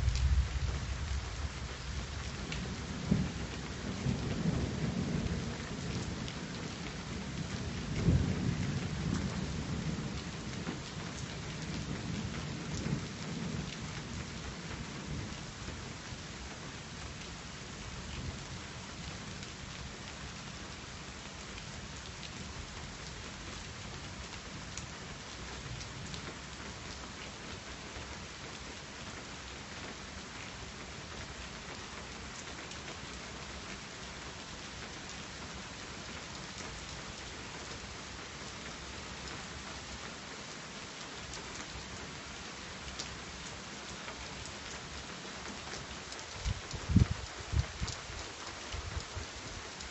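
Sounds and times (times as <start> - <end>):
steady falling rain: 0.0 - 49.9.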